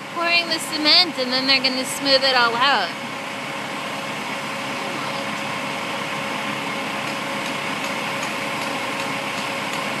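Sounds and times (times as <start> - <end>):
concrete mixer truck engine hum: 0.0 - 10.0.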